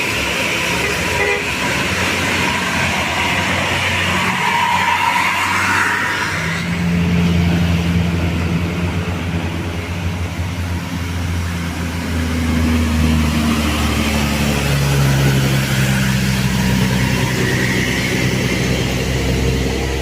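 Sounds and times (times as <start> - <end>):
heavy vehicle engine drone: 0.0 - 20.0.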